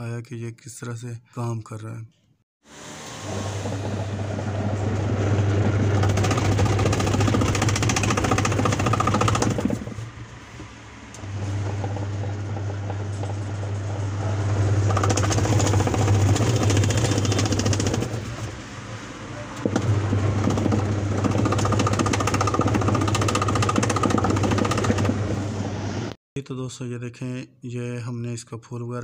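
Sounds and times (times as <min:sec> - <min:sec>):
washing machine motor churning: 0:02.6 - 0:26.1.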